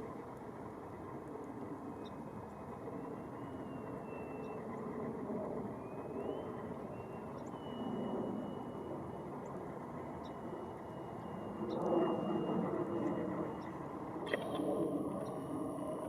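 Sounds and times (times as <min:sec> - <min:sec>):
faint high wavering whine: 0:00.0 - 0:16.0.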